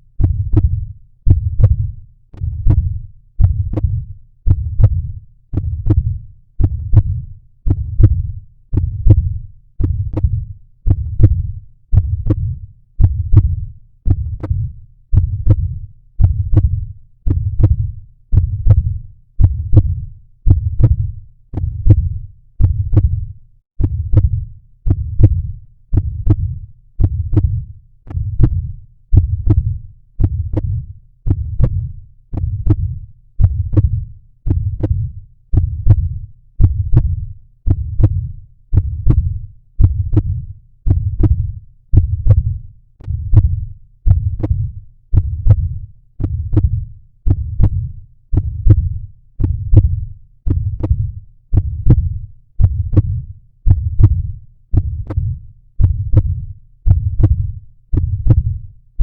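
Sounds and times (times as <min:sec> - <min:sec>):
human heartbeat thuds: 0:00.2 - 0:58.8.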